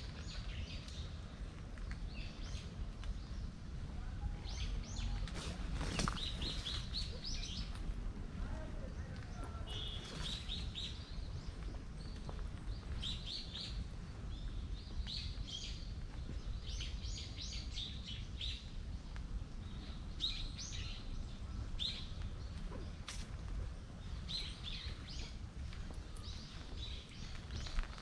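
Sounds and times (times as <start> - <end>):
low steady rumble: 0.0 - 28.0
small birds chirping: 0.0 - 28.0.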